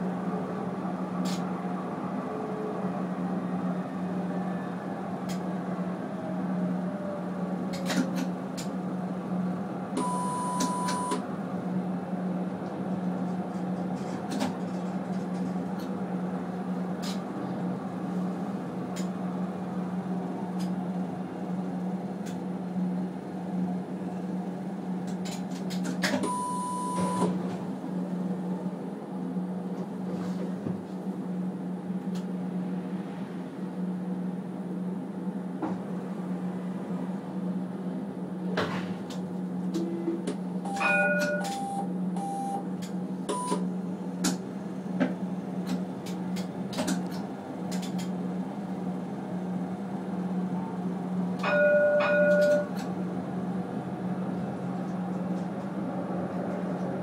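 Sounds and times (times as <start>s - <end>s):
tram humming: 0.0s - 57.0s.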